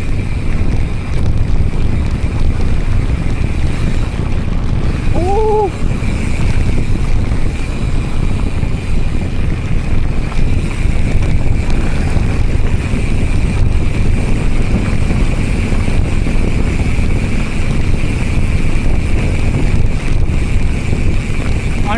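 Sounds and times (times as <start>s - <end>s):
mountain bike rolling on dirt: 0.0s - 21.9s
wind rushing over microphone: 0.0s - 21.9s.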